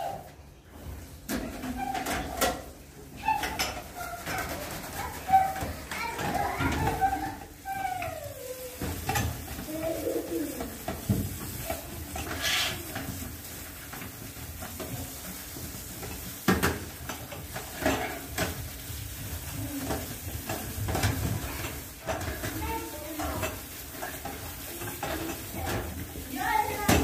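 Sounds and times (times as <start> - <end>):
sponge scrubbing metal tray: 0.0 - 27.0
tap water running into sink: 3.4 - 27.0.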